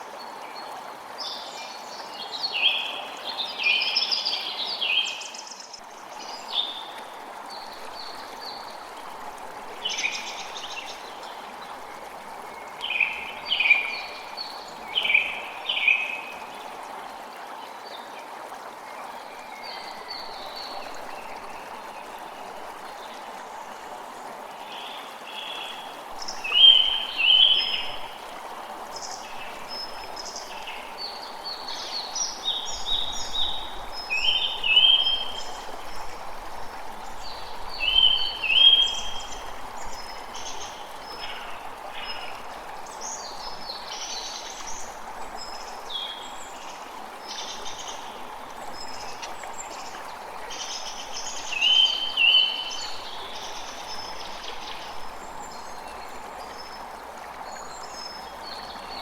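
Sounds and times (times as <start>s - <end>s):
creek running: 0.0s - 59.0s.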